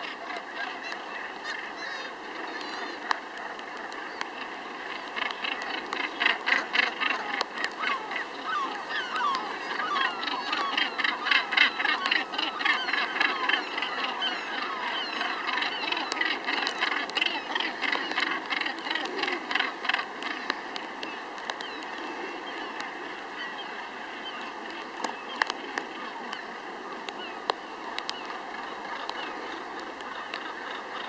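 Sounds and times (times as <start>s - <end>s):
seabird colony calling: 0.0s - 31.0s.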